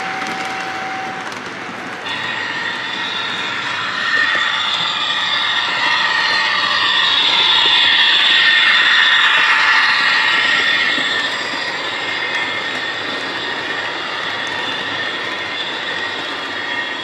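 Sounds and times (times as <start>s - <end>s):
model locomotive motor whine: 0.0s - 17.0s.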